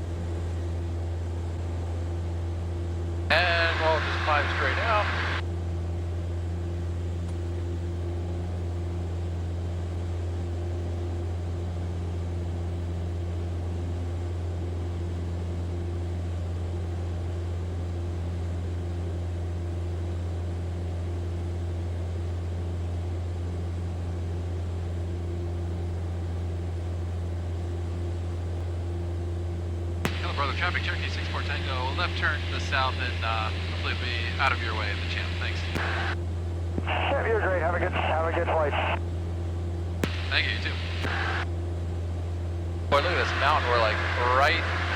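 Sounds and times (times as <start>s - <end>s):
propeller plane engine droning: 0.0s - 44.9s.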